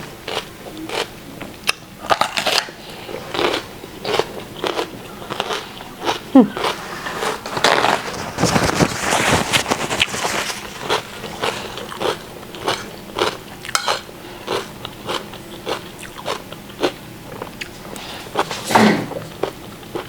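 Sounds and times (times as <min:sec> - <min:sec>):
close chewing of food: 0:00.0 - 0:20.0.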